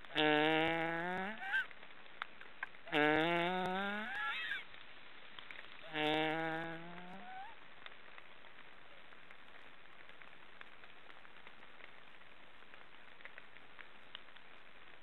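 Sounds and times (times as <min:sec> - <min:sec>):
faint scattered ticks: 0:00.0 - 0:15.0
steady hiss: 0:00.0 - 0:15.0.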